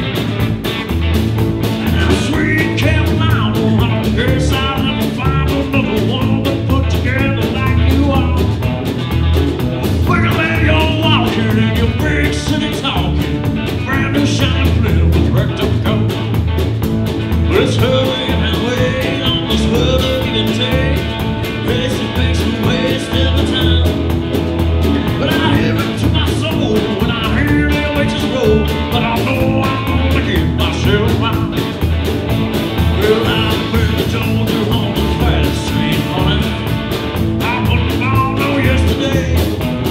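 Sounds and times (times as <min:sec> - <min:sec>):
country blues rock band live: 0:00.0 - 0:39.9.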